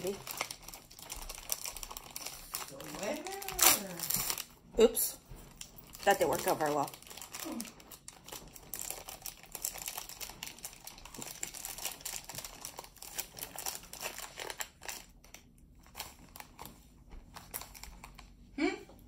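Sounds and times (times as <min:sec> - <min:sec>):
packaging crinkling and rustling: 0:00.0 - 0:18.4.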